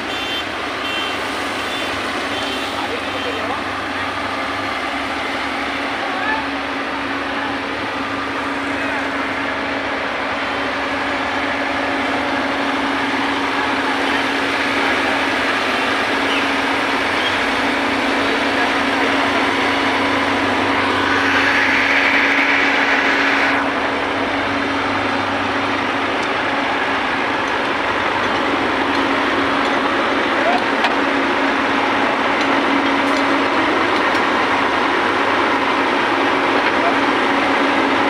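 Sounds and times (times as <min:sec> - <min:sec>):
heavy truck engine droning: 0:00.0 - 0:38.0.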